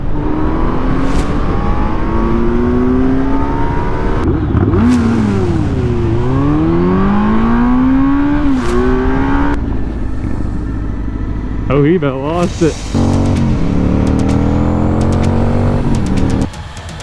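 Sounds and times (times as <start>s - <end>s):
motorcycle engine accelerating: 0.0s - 16.6s.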